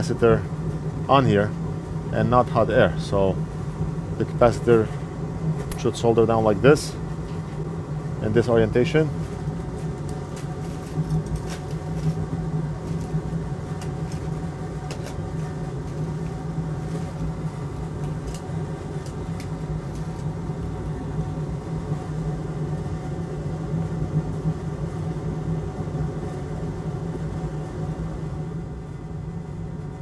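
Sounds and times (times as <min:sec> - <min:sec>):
extractor fan humming: 0:00.0 - 0:30.0.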